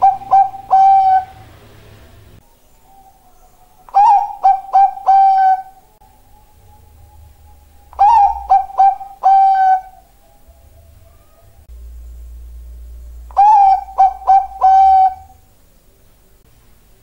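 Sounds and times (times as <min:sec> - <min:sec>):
dove cooing: 0:00.0 - 0:15.6.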